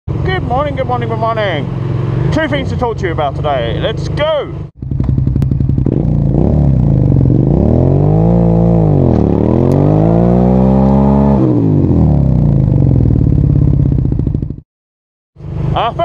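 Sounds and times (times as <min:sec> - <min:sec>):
motorcycle engine revving hard: 0:00.3 - 0:14.6.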